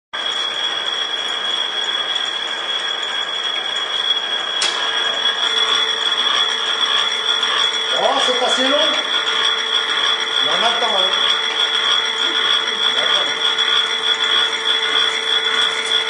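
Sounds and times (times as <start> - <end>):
machine running: 0.2 - 16.0
steady hum: 0.5 - 16.0.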